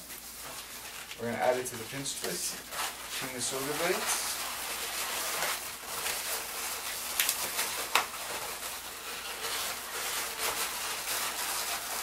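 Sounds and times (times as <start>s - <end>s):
balloons rubbing and squeaking: 0.0s - 12.0s.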